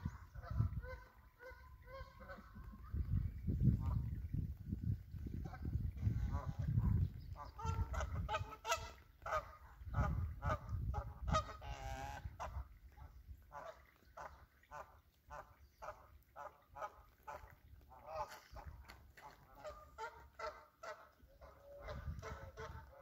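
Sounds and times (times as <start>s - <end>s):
geese honking: 0.0s - 3.1s, 7.4s - 23.0s.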